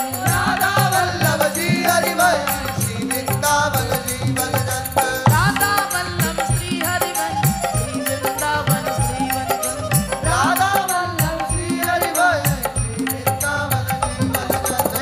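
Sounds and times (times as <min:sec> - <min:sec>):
hand drum beat: 0:00.0 - 0:15.0
held instrumental tones: 0:00.0 - 0:15.0
woman singing: 0:00.0 - 0:15.0.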